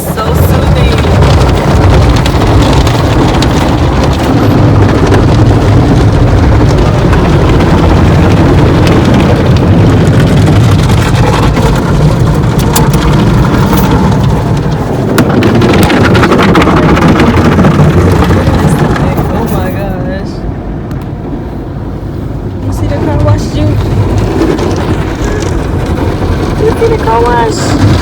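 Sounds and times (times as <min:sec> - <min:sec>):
water spraying onto car body: 0:00.0 - 0:19.9, 0:22.0 - 0:28.0.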